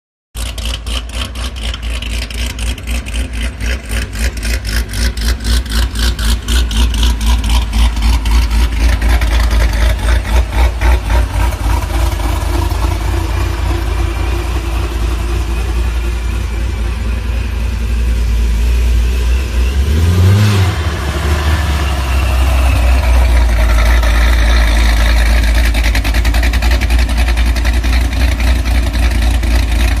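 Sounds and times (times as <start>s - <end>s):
car engine idling and revving: 0.4s - 30.0s.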